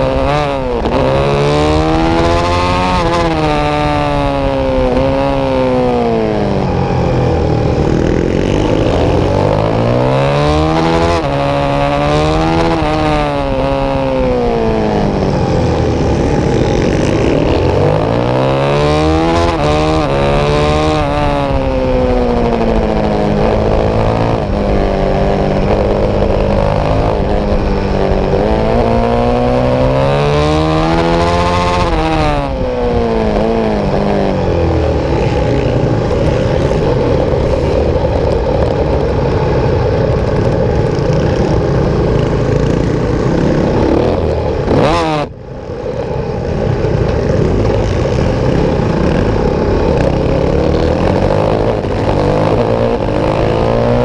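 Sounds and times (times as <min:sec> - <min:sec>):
motorcycle engine at race pace: 0:00.0 - 0:54.0
wind rush: 0:00.0 - 0:54.0.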